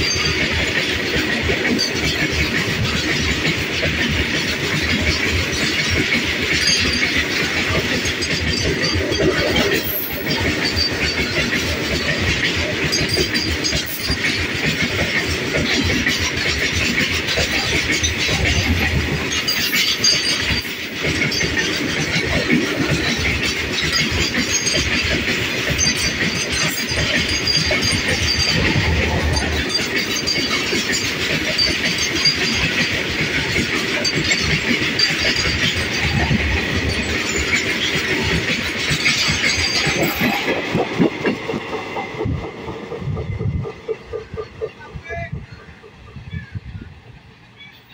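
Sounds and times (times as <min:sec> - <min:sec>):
train wheels clattering over rails: 0:00.0 - 0:47.9.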